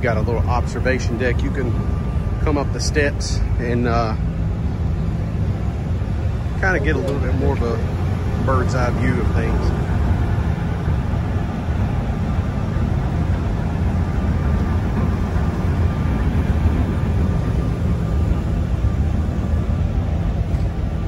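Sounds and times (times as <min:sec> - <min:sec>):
churning propeller wake: 0:00.0 - 0:21.0
ship engines rumbling: 0:00.0 - 0:21.0.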